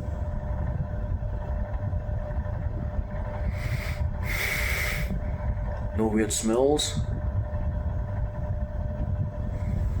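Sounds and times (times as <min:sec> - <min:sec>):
faint motor hum: 0:00.0 - 0:10.0
fan airflow rumble: 0:00.0 - 0:10.0.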